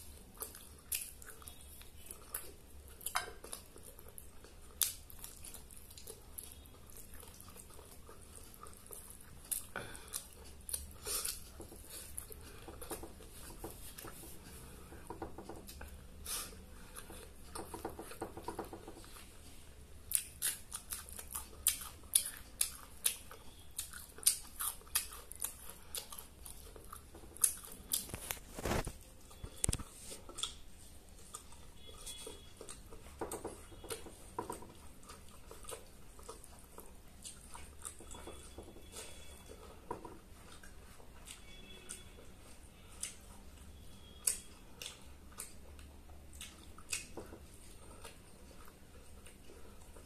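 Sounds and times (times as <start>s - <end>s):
close-up chewing: 0.0s - 50.0s.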